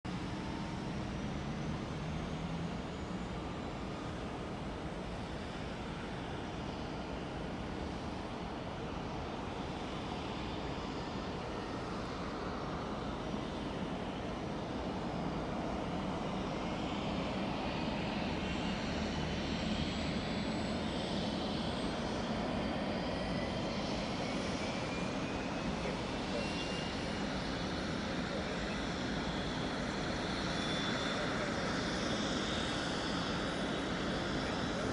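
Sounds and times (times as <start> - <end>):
helicopter turbine and rotor: 0.1 - 34.9.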